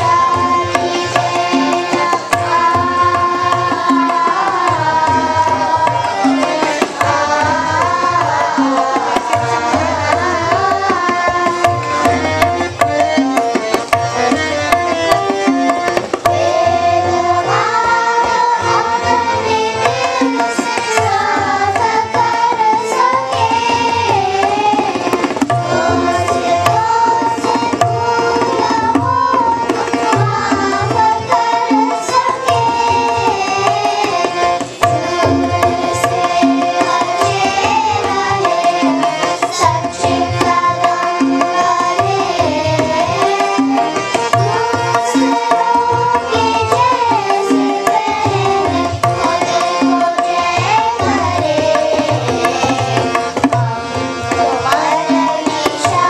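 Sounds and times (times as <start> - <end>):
children singing devotional song: 0.0 - 56.0.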